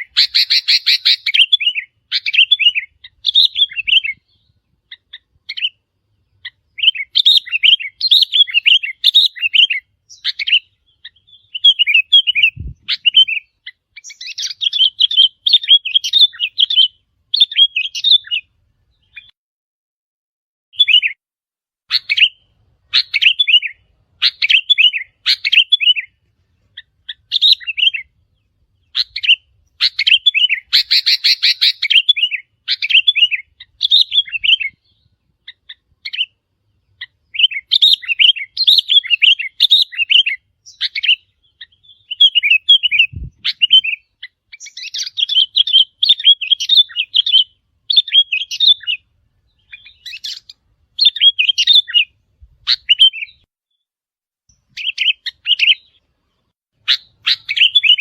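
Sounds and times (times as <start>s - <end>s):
bird song: 0.0s - 19.4s, 20.7s - 21.2s, 21.9s - 53.9s, 54.5s - 58.0s.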